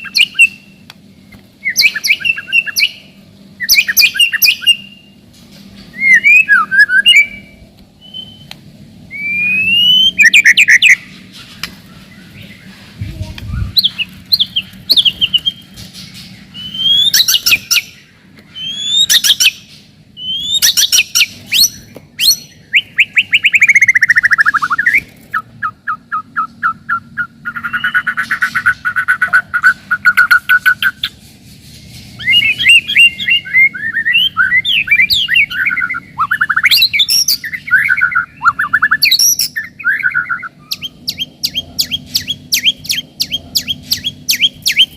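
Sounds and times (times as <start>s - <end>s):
songbird whistling song: 0.0s - 5.2s, 5.9s - 31.2s, 32.2s - 44.9s.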